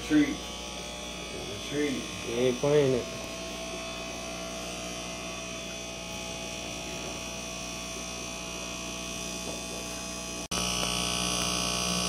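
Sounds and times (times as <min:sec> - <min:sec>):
electrical hum with faint buzz: 0:00.0 - 0:12.0.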